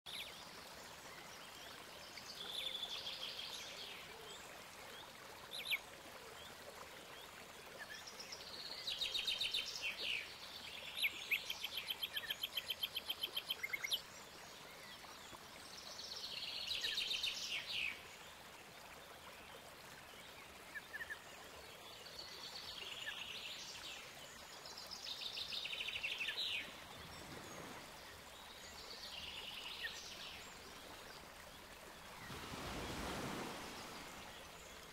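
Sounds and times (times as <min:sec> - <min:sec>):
faint steady hiss: 0:00.1 - 0:34.9.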